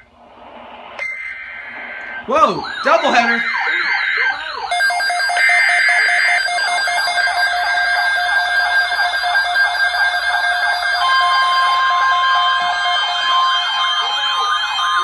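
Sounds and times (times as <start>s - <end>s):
electronic alarm beeping: 1.0s - 15.0s
rapid warbling alarm sweeps: 1.0s - 15.0s
steady alarm tone: 1.0s - 15.0s.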